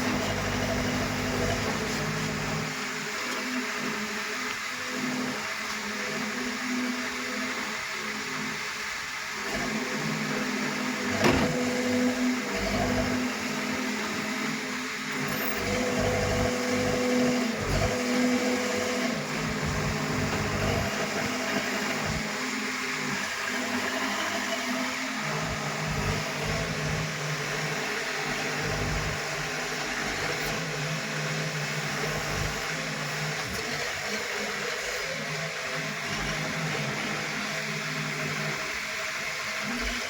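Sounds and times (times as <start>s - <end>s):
heavy machine engine running: 0.0s - 7.8s, 9.4s - 40.0s.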